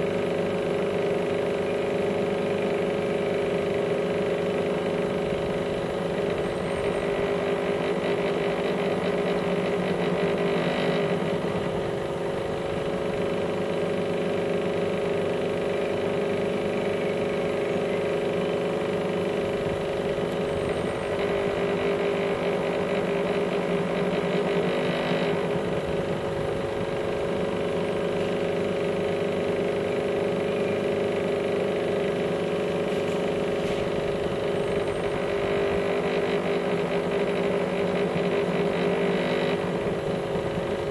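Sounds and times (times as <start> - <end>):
motor humming: 0.0 - 40.9.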